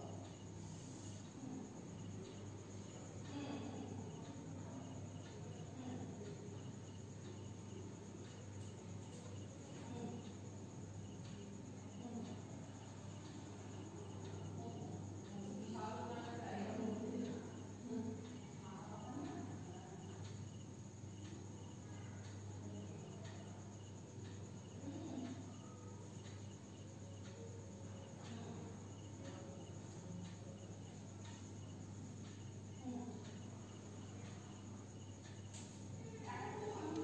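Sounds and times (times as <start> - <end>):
faint cricket chirping: 0.0 - 37.0
steady electrical hum: 0.0 - 37.0.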